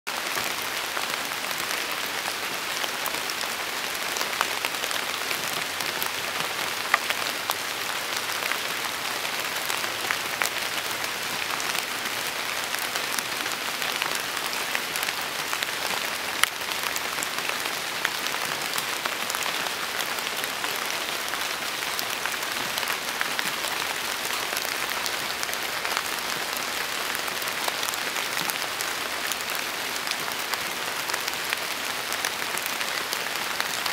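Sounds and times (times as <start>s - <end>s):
rain patter: 0.1s - 33.9s.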